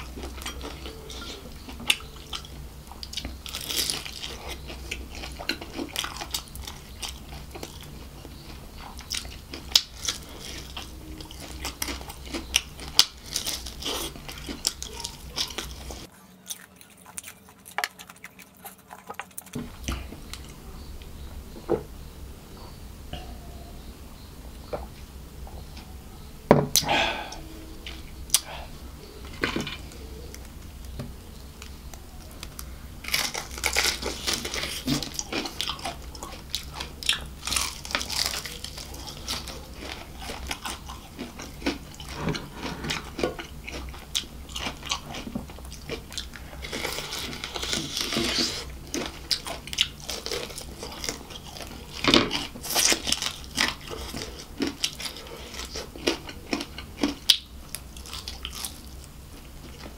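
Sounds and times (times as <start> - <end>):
crunchy chewing of fried chicken: 0.0 - 21.3, 26.8 - 59.9.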